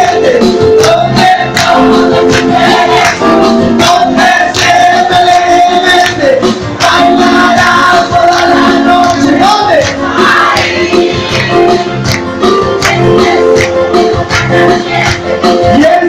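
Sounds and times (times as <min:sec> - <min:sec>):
people singing: 0:00.0 - 0:16.0
steady percussive beat: 0:00.0 - 0:16.0.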